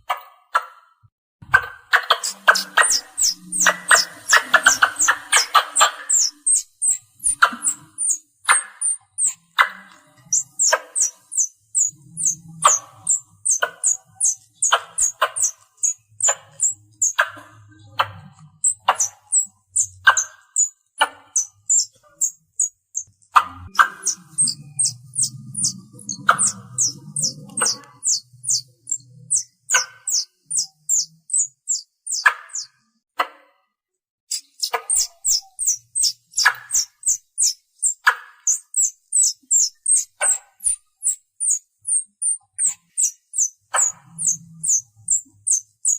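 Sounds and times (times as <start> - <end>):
squirrel chirping: 1.5 - 32.7, 34.3 - 45.9.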